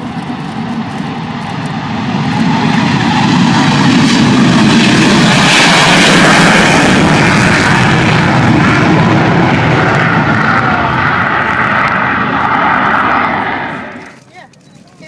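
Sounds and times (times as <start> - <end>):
jet engines on take-off: 0.0 - 15.0.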